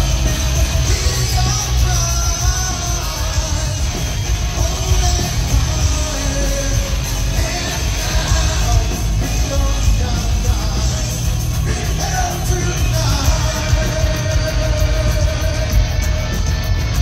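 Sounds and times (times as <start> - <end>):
heavy metal band playing: 0.0 - 17.0
person singing: 0.7 - 16.4.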